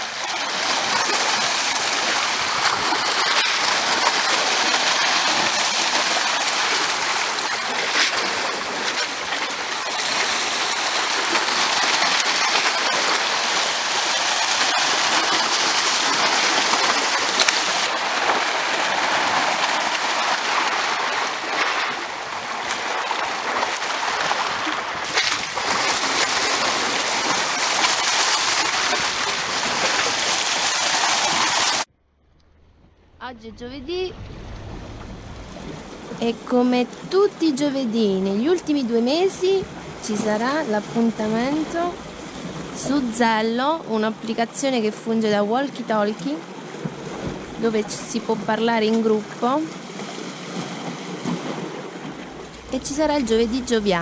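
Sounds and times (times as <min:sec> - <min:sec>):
surf splashing among rocks: 0:00.0 - 0:31.9, 0:33.7 - 0:54.0.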